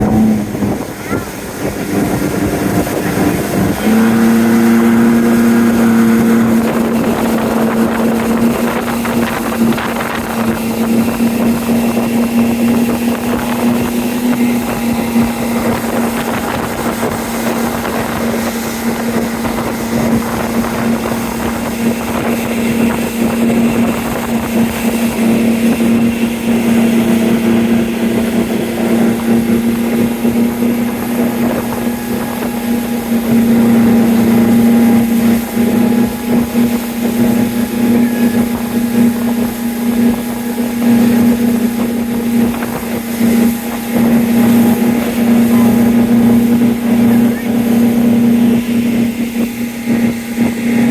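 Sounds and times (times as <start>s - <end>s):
boat motor running: 0.0s - 50.9s
wind buffeting microphone: 0.0s - 50.9s.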